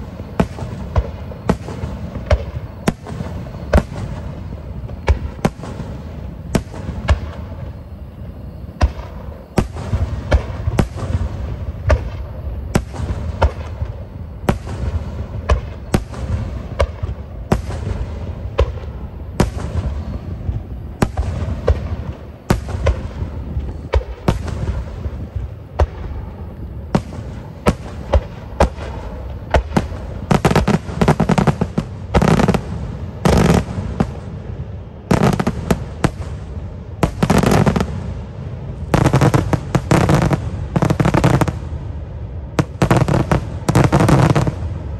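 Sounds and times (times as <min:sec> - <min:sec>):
crackling fireworks bursts: 0:00.0 - 0:44.9
fireworks bangs: 0:00.0 - 0:44.9.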